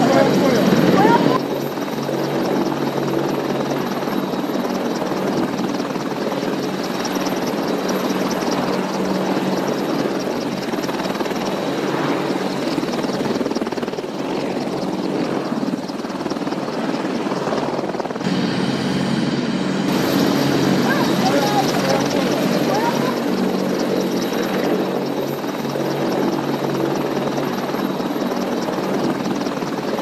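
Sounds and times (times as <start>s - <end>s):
helicopter engine whine: 0.0s - 30.0s
helicopter rotor beat: 0.0s - 30.0s.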